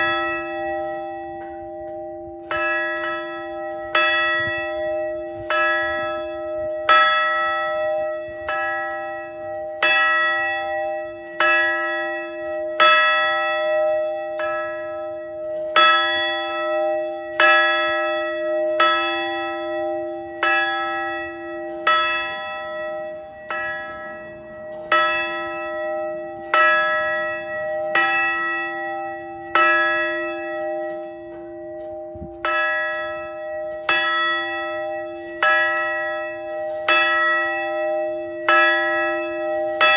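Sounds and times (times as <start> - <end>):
large bell tolling: 0.0 - 39.9.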